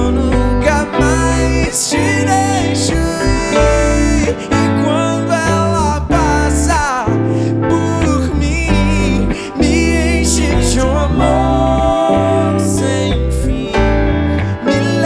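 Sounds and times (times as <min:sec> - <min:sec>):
person singing: 0:00.0 - 0:15.0
pop-rock band playing live: 0:00.0 - 0:15.0.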